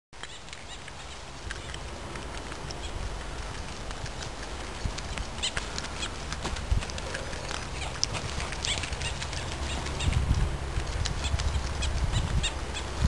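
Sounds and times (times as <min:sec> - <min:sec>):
low rumble of wind: 0:00.2 - 0:13.0.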